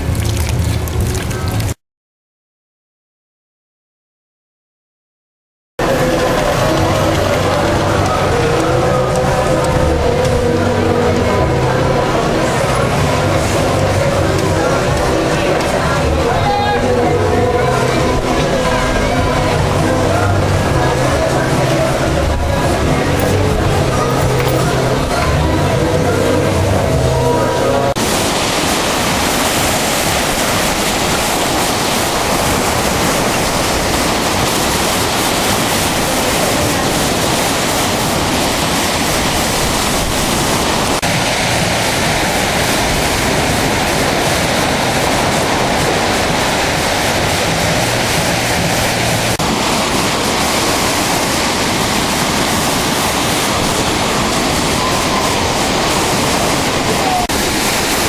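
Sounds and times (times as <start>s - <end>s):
floodwater rushing: 0.0s - 1.8s, 5.8s - 58.0s.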